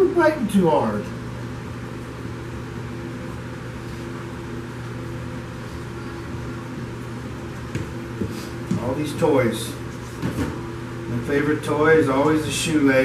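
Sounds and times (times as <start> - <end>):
low machine hum with hiss: 0.0 - 13.0.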